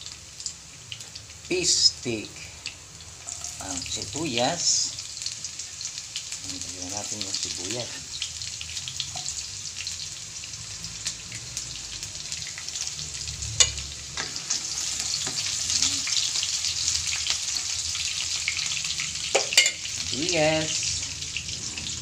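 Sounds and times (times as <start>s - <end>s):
onion sizzling in hot oil: 0.0s - 22.0s.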